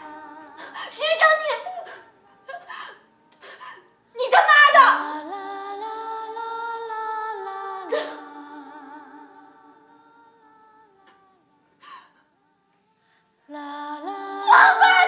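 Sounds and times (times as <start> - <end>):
wordless vocal-like tones: 0.0 - 12.6, 13.4 - 15.0.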